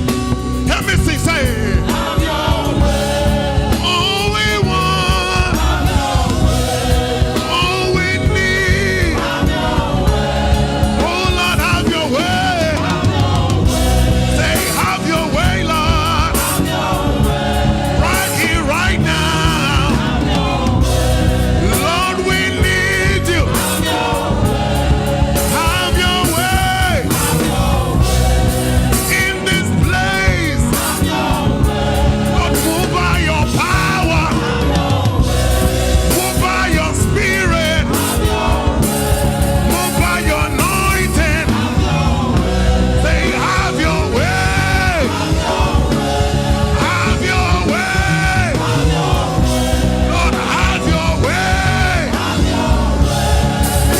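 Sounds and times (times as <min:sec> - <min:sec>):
gospel choir singing: 0:00.0 - 0:53.9
live band: 0:00.0 - 0:53.9
steady drum beat: 0:00.0 - 0:53.9.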